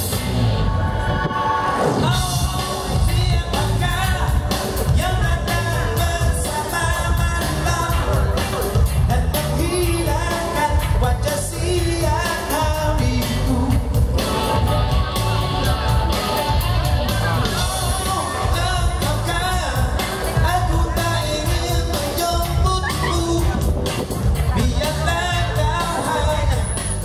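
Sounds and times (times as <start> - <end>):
band music with drum beat: 0.0 - 0.6, 1.9 - 27.0
man singing into a microphone: 1.0 - 14.3, 17.5 - 23.7, 24.5 - 27.0.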